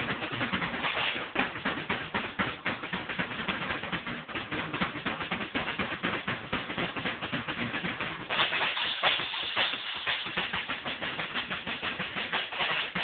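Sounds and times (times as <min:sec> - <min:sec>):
fast drum kit playing: 0:00.0 - 0:13.0.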